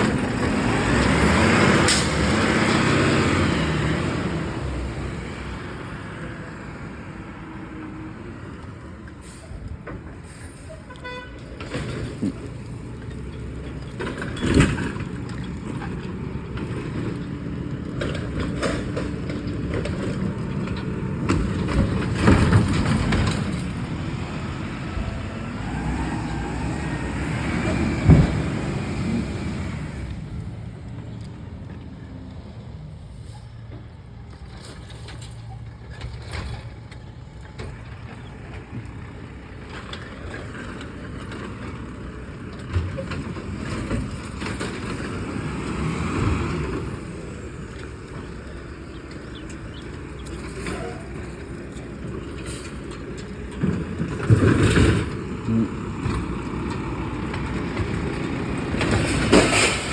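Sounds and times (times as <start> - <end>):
large vehicle engine running: 0.0 - 59.9.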